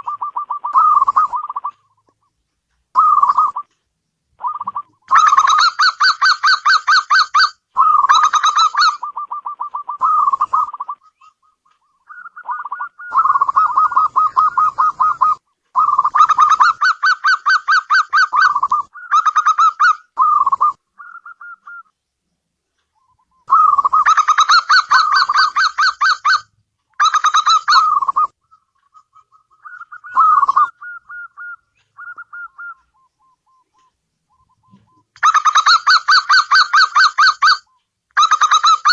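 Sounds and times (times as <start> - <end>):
dove cooing: 0.0 - 2.0, 3.0 - 3.7, 4.4 - 7.2, 7.8 - 21.9, 23.0 - 26.4, 27.0 - 37.6.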